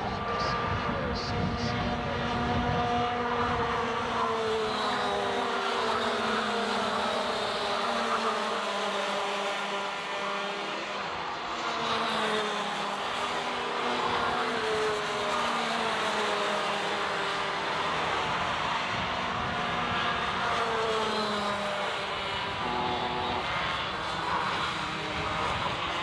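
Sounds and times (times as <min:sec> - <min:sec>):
racing kart engines: 0:00.0 - 0:26.0.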